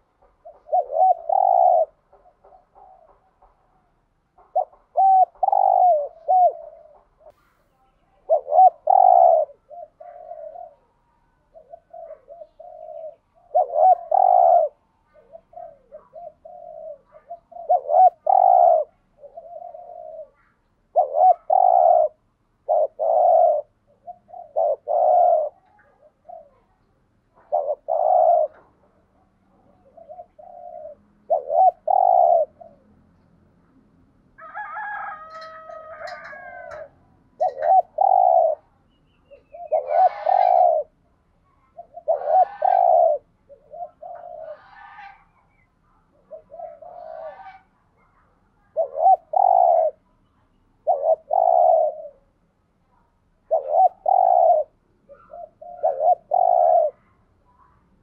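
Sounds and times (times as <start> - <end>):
dove cooing: 0.0 - 7.3, 8.2 - 33.2, 34.4 - 50.2, 50.8 - 52.4, 53.4 - 57.8.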